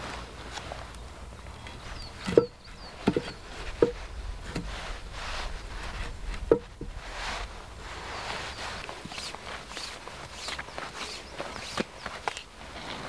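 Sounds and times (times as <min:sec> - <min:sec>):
wooden poles clacking: 0:00.0 - 0:07.1, 0:08.2 - 0:13.0
faint rustling: 0:00.0 - 0:13.0.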